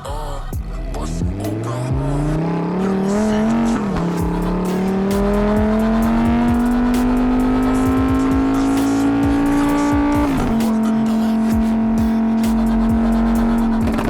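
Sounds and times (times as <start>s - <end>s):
car engine accelerating: 0.0s - 14.0s
rap music with thumping beat: 0.0s - 14.0s.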